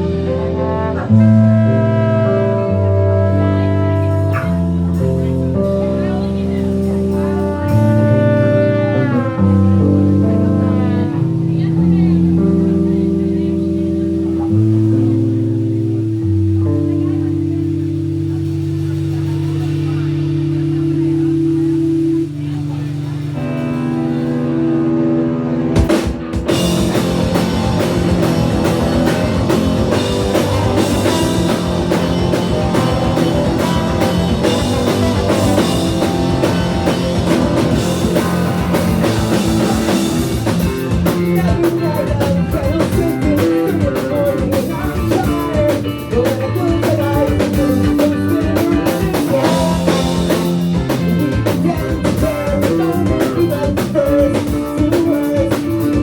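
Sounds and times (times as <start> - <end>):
wavering lead melody: 0.0 - 54.8
drum kit: 0.0 - 56.0
electric guitar: 0.0 - 56.0
ska punk band playing live: 0.0 - 56.0.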